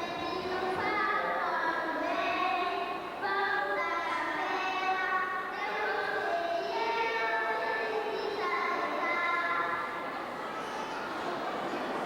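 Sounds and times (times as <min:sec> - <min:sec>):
children singing: 0:00.0 - 0:10.0.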